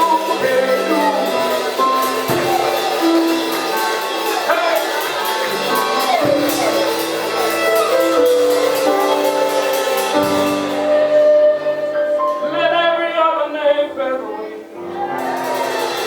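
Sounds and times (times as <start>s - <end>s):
cymbal beat: 0.0s - 13.2s, 15.2s - 16.0s
band playing sustained chords: 0.0s - 16.0s.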